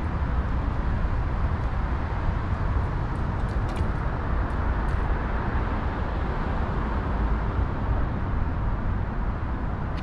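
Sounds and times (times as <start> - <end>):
city traffic rumble: 0.0 - 10.0.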